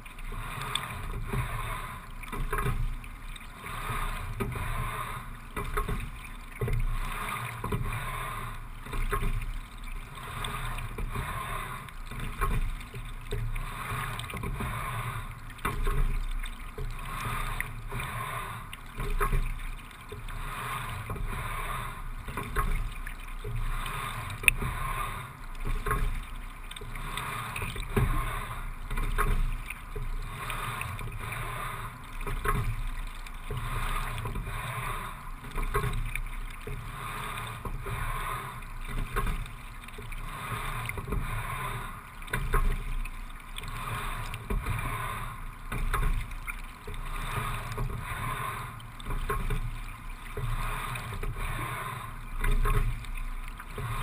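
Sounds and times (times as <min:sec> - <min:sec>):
water rushing along rowing boat: 0:00.0 - 0:54.0.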